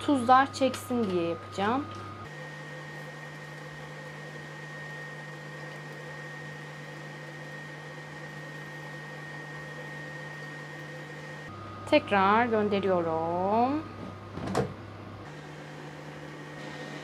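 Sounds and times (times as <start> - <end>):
kitchen fan humming: 0.0 - 17.0.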